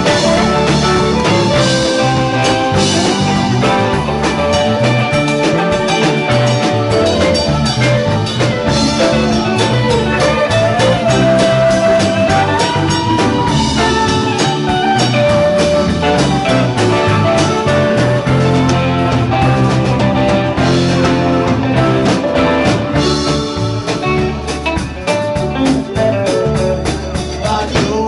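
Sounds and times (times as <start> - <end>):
bass guitar: 0.0 - 28.0
drum kit: 0.0 - 28.0
electric guitars: 0.0 - 28.0
sliding bending guitar lead line: 0.0 - 28.0.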